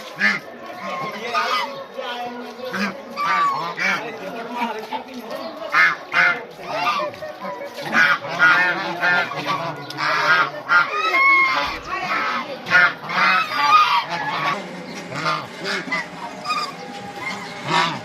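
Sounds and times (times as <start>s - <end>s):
flock of birds calling: 0.0s - 18.0s.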